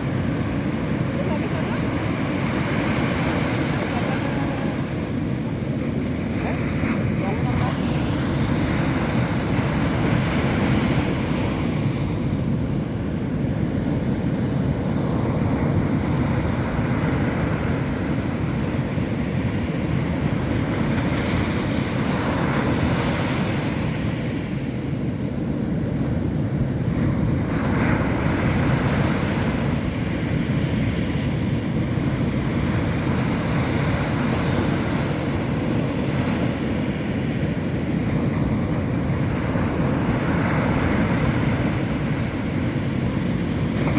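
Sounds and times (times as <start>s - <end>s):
waves breaking on beach: 0.0s - 43.9s
wind rumbling on microphone: 0.0s - 43.9s.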